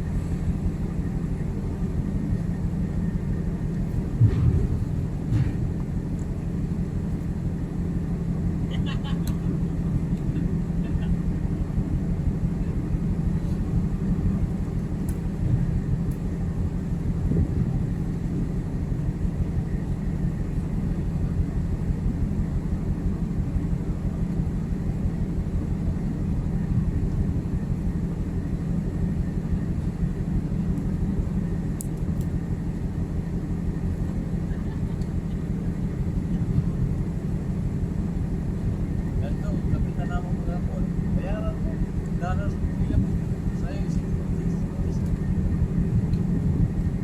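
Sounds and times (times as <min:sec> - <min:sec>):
ship machinery droning: 0:00.0 - 0:47.0.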